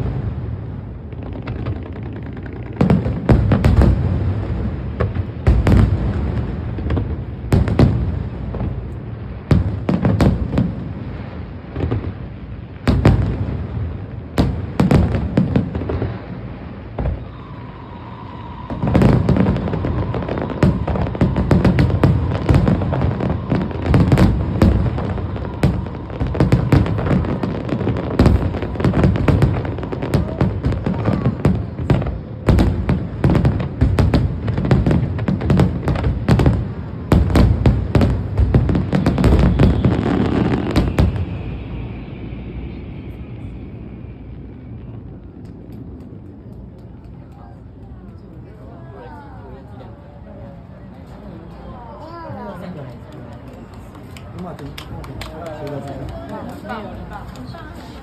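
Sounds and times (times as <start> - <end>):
fireworks bursts and booms: 0.0 - 58.0.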